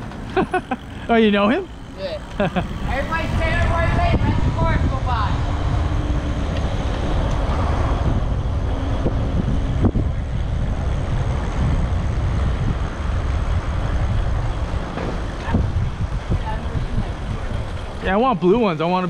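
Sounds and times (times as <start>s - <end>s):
tyre and road noise: 0.0s - 19.0s
wind rumble on microphone: 0.0s - 19.0s.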